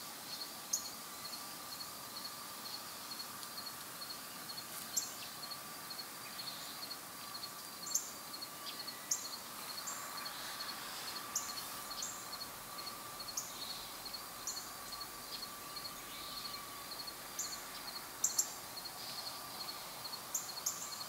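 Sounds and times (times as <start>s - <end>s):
faint steady hum: 0.0s - 21.0s
insects ticking: 0.2s - 21.0s
small birds chirping: 0.3s - 19.7s.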